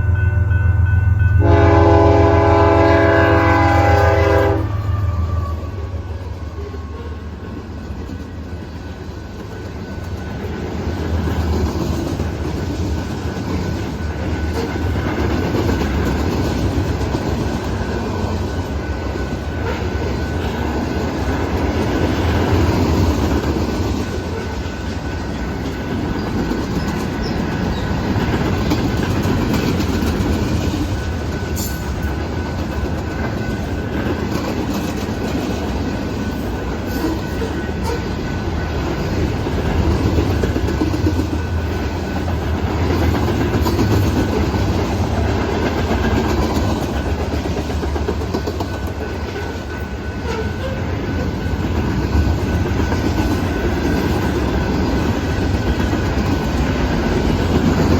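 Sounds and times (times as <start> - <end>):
freight train rolling past: 0.0 - 57.9
wheels clacking over rail joints: 7.4 - 57.9.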